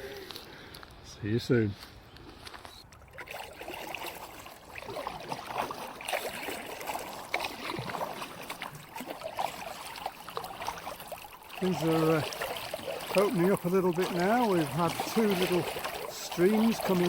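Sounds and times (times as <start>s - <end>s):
brook water gurgling around kayak: 3.0s - 17.0s.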